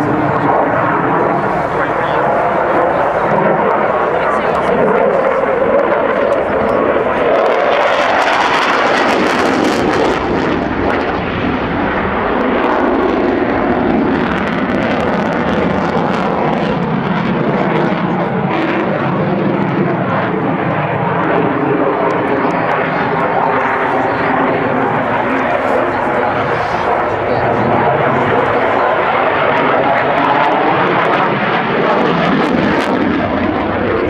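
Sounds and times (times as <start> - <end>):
jet flying past: 0.0 - 34.0.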